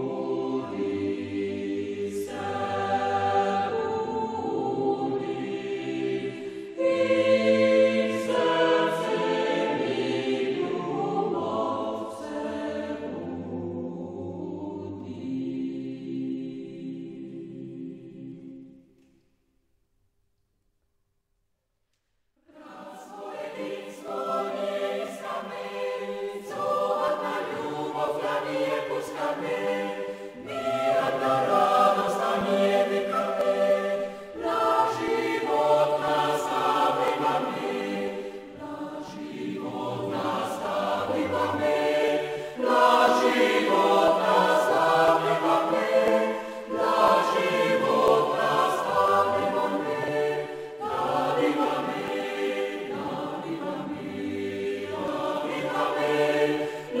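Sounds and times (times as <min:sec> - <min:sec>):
choir singing slow song: 0:00.0 - 0:19.2, 0:22.4 - 0:57.0.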